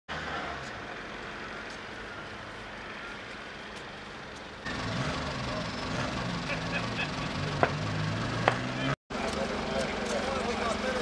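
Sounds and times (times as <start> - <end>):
engine noise: 0.1 - 11.0
traffic noise: 0.1 - 11.0.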